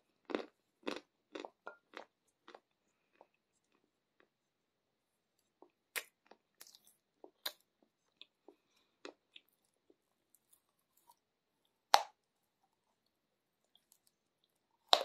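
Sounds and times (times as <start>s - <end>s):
cookie chewing and crunching: 0.0s - 4.4s, 5.4s - 15.0s.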